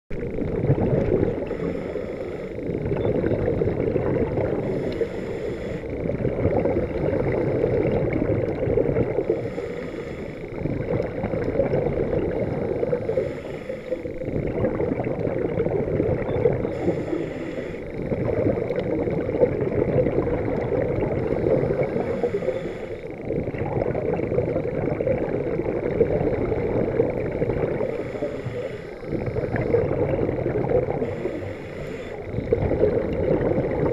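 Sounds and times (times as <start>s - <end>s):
scuba regulator breathing bubbles: 0.2s - 33.9s.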